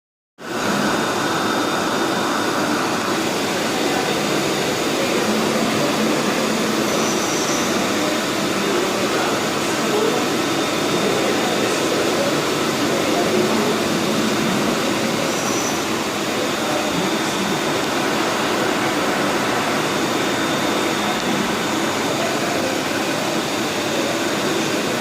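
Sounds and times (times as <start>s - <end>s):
lathe running: 0.4s - 25.0s.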